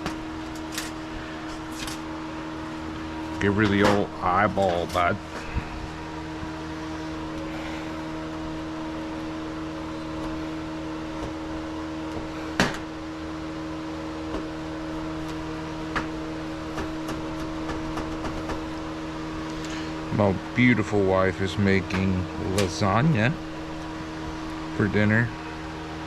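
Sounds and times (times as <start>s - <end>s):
appliance humming: 0.0s - 26.0s.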